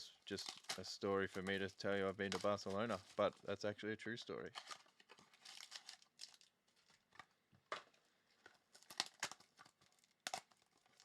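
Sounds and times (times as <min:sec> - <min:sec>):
card packaging crinkling and tearing: 0:00.0 - 0:03.8, 0:04.4 - 0:11.0.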